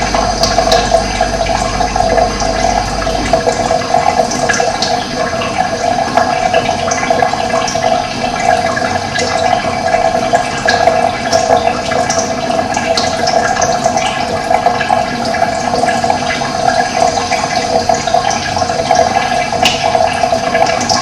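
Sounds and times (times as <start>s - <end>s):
running water flowing: 0.0s - 21.0s.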